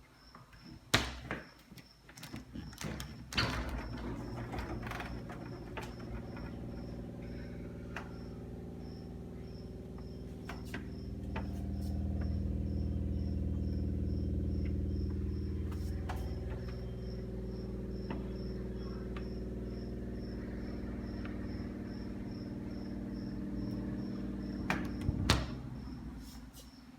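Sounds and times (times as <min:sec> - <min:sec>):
small ticks and rattles: 0:01.6 - 0:25.1
refrigerator humming: 0:02.0 - 0:26.9.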